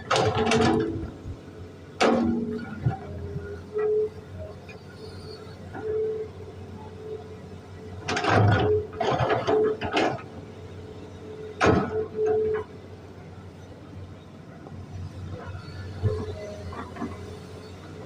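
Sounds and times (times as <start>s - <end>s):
excavator humming: 0.0s - 18.0s.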